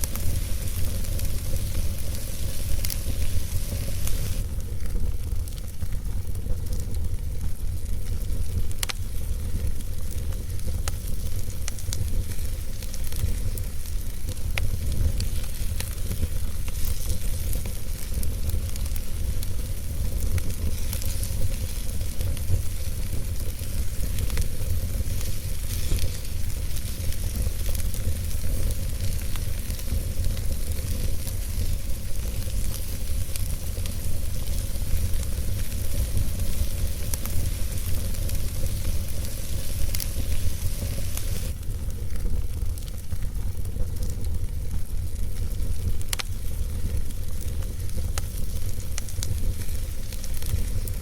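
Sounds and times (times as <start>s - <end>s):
campfire hissing and crackling: 0.0s - 51.0s.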